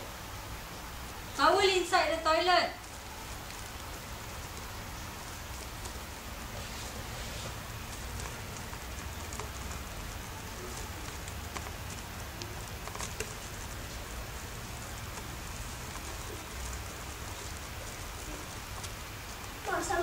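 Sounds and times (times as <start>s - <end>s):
steady hiss: 0.0s - 20.0s
cat licking fur: 2.8s - 20.0s.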